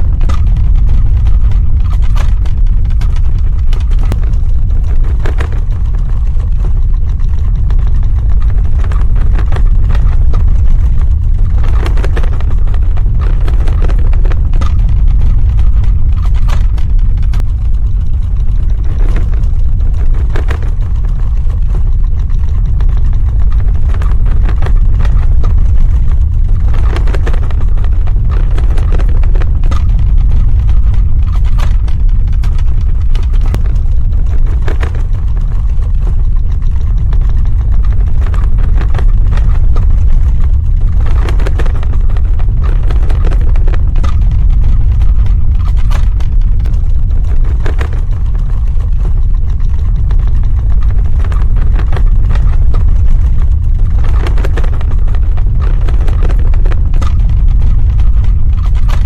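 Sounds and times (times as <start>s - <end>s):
deep rumble: 0.0s - 59.0s.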